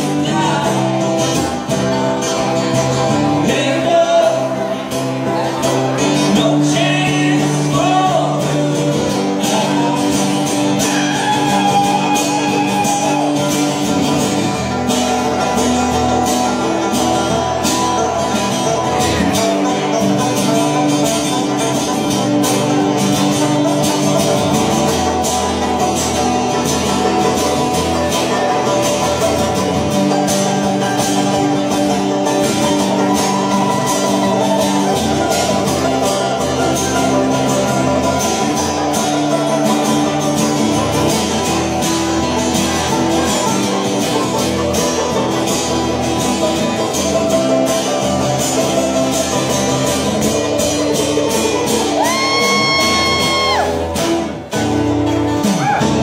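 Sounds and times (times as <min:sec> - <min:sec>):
acoustic guitar playing: 0:00.0 - 0:56.0
banjo picking: 0:00.0 - 0:56.0.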